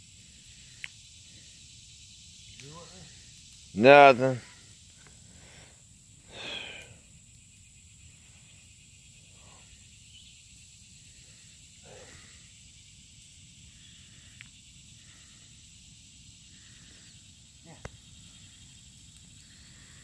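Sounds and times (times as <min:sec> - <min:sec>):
faint outdoor hiss: 0:00.0 - 0:20.0
high insect drone: 0:00.0 - 0:20.0.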